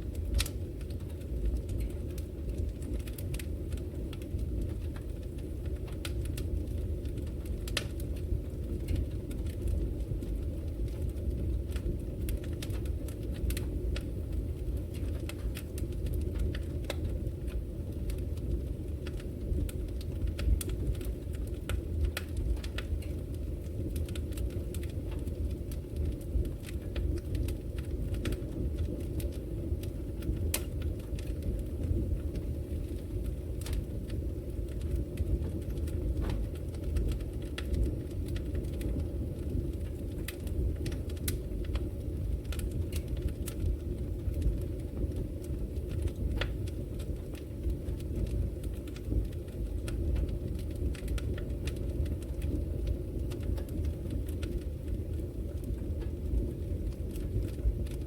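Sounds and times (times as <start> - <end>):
fire crackling and popping: 0.0 - 58.0
wood fire rumbling: 0.0 - 58.0.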